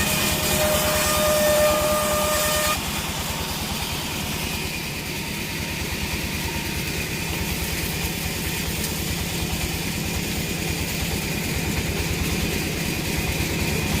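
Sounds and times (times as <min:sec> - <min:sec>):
heavy engine throbbing: 0:00.0 - 0:14.0.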